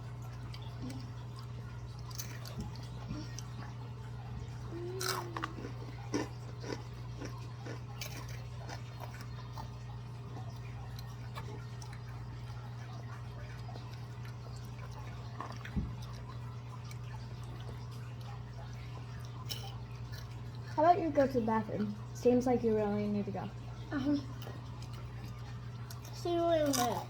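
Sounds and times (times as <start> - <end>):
crunchy chips being chewed: 0.0 - 20.8, 23.8 - 27.0
steady low hum: 0.0 - 27.0.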